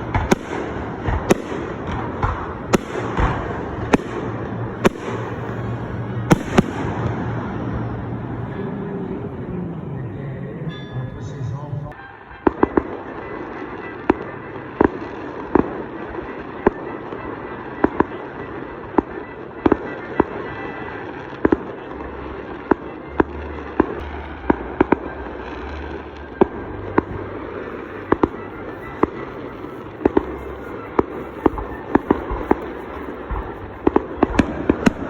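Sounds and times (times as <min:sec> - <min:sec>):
fireworks crackle: 0:00.0 - 0:08.7, 0:11.9 - 0:35.0
fireworks bangs: 0:00.0 - 0:10.0, 0:11.9 - 0:35.0.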